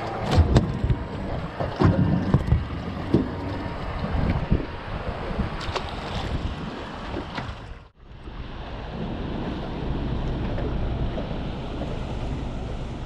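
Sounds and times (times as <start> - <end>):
water lapping against boat: 0.0 - 13.0
wind buffeting microphone: 0.3 - 13.0.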